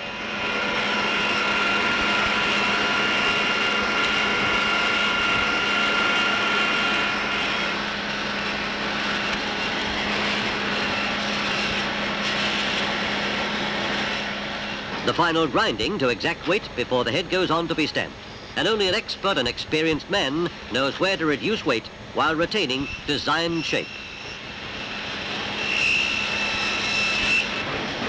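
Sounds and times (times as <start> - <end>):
machine tool whine: 0.0 - 28.0.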